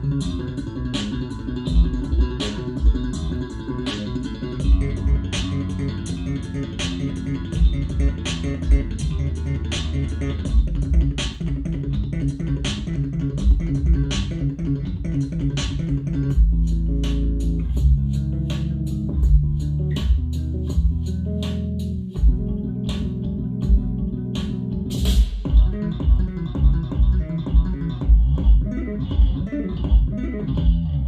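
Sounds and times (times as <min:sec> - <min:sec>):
slapped electric bass guitar: 0:00.0 - 0:31.0.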